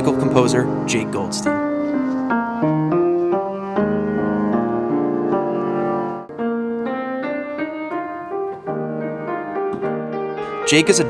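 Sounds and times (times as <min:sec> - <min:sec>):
piano melody over chords: 0:00.0 - 0:11.0.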